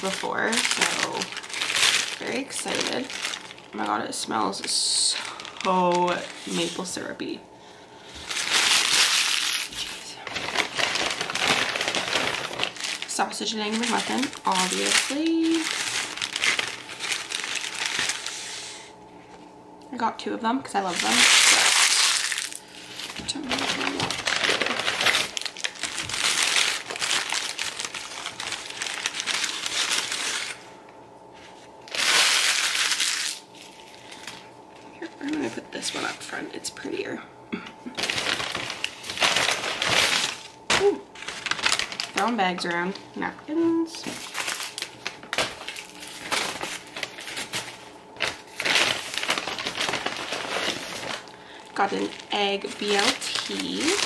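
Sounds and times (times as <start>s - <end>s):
paper wrapper crumpling: 0.0s - 7.0s, 8.0s - 18.6s, 20.9s - 30.7s, 31.9s - 36.2s, 38.0s - 42.7s, 44.0s - 54.0s.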